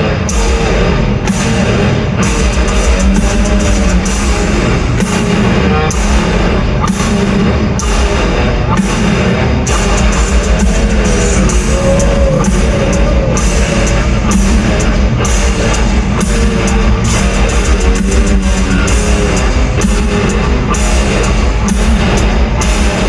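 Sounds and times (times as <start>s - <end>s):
bending melodic guitar line: 0.0s - 23.0s
distorted electric guitars: 0.0s - 23.0s
drum kit with cymbal hits: 0.0s - 23.0s.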